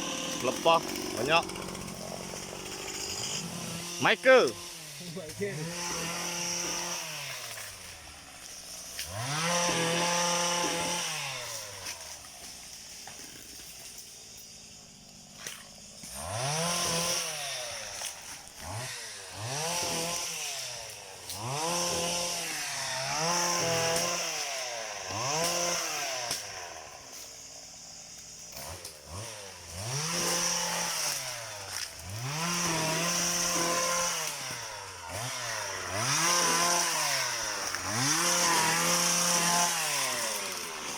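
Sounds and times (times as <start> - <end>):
small two-stroke engine revving: 0.0 - 7.7, 8.4 - 12.2, 14.8 - 27.2, 28.4 - 40.9.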